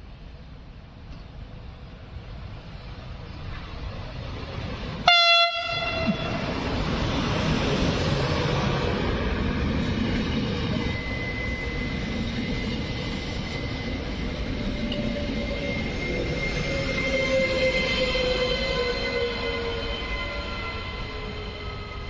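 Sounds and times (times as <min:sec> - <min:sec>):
wheels rumbling on rails: 0:00.2 - 0:22.0.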